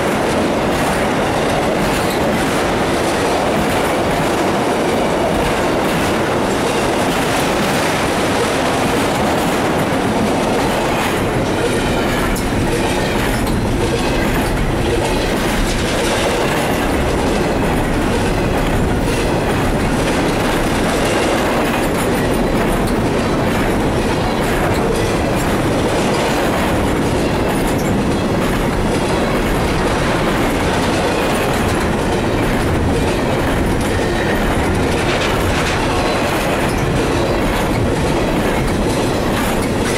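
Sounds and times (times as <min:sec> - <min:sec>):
freight train cars rolling past: 0:00.0 - 0:39.9
wheels clacking over rail joints: 0:00.0 - 0:39.9.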